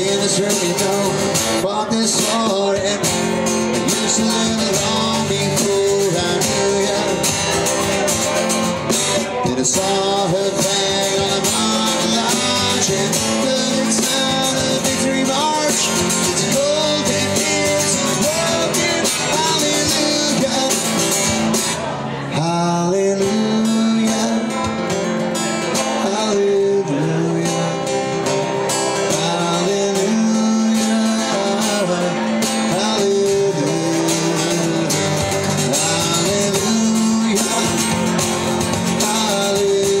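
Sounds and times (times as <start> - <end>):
band playing with guitars: 0.0 - 40.0.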